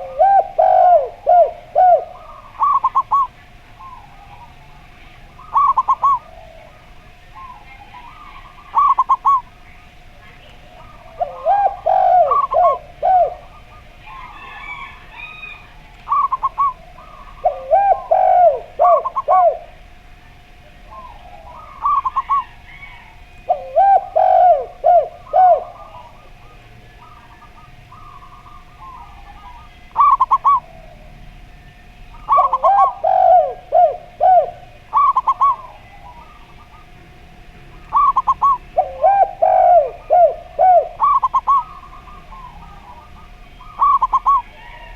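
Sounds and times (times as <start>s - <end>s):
faint bird chirps: 0.0s - 37.1s, 37.7s - 44.9s
doves cooing: 0.0s - 44.9s
faint steady hum: 0.0s - 44.9s.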